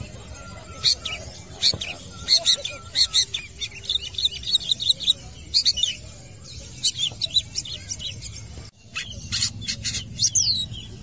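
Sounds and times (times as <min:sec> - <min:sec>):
bird singing high chirps: 0:00.0 - 0:11.0.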